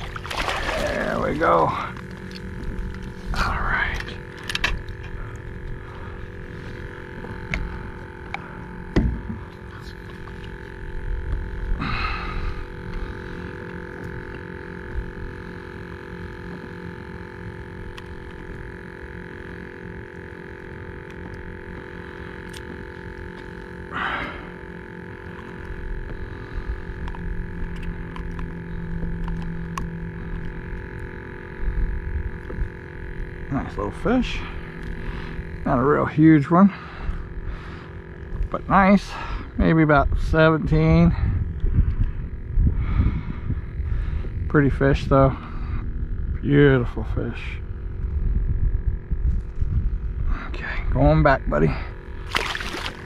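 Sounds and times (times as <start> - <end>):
steady hum and low rumble: 0.0 - 53.0.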